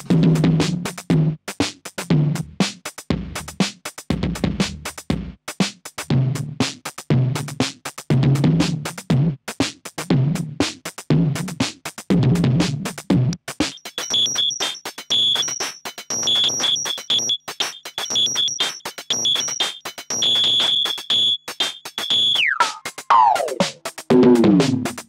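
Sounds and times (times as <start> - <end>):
drum machine loop: 0.0 - 25.0.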